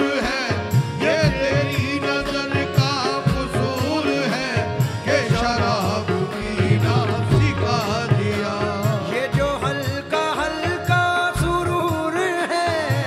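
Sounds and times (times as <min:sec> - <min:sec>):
harmonium or keyboard melody: 0:00.0 - 0:13.0
person singing: 0:00.0 - 0:13.0
tabla and drum kit beat: 0:00.0 - 0:13.0.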